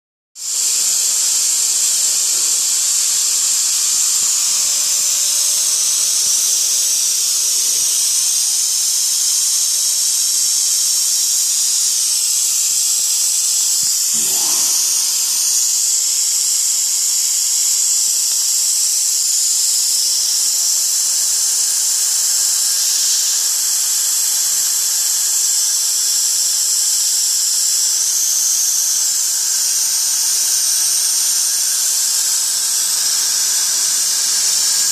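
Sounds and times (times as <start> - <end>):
compressed air hissing: 0.4 - 34.9
high-pitched whine: 0.4 - 34.9.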